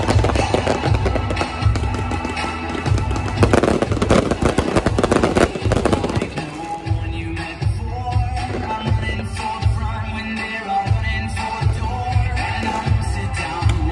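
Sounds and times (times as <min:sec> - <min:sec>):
fireworks cracking and banging: 0:00.0 - 0:11.6
loud music with bass beat: 0:00.0 - 0:13.9.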